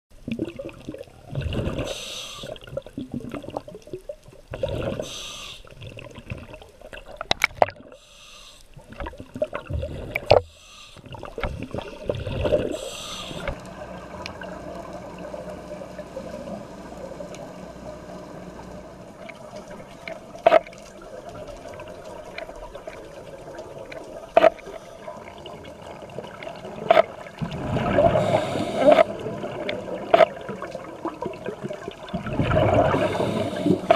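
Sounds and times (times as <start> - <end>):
low underwater hum: 0.1 - 33.9
underwater bubbling and gurgling: 0.1 - 33.9.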